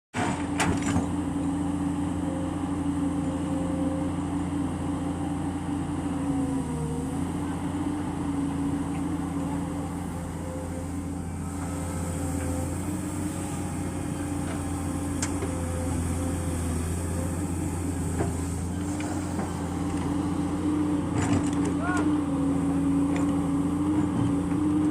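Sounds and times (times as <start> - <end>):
excavator diesel engine running: 0.2 - 24.9.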